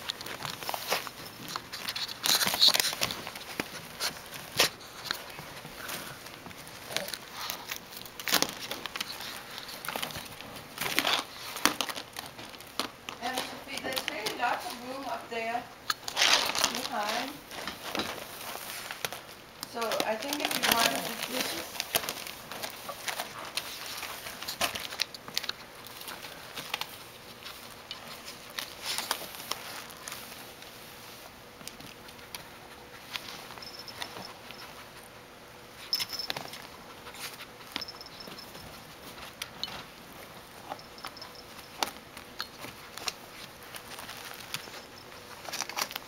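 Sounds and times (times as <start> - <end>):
plastic tube crinkling and scraping: 0.0 - 35.1, 35.9 - 46.0.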